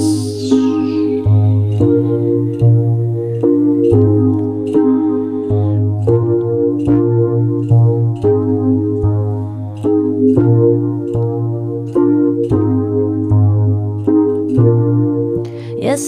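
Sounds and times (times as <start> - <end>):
deep bass: 0.0 - 15.8
synthesizer electric piano chords: 0.0 - 16.0.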